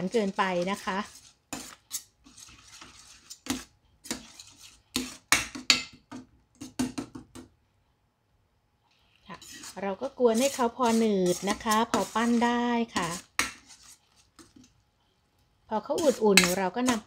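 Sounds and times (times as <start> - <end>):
spoon scraping metal pot: 0.0 - 6.9, 9.0 - 14.8, 15.9 - 17.0.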